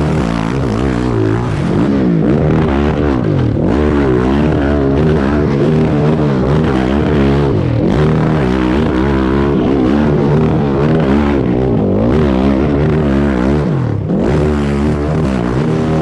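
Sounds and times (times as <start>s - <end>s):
motorcycle engine revving hard: 0.0s - 16.0s.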